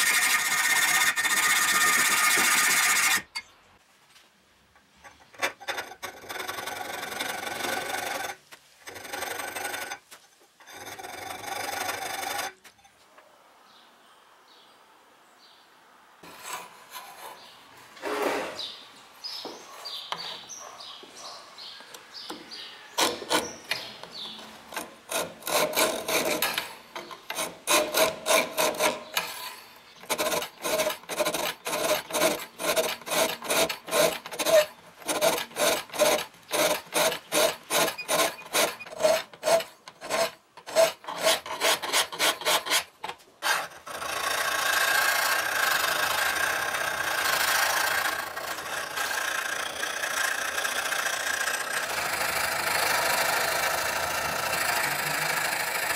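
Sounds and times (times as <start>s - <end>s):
file scraping steel blade: 0.0s - 3.5s, 5.0s - 12.6s, 16.2s - 18.6s, 22.9s - 55.9s.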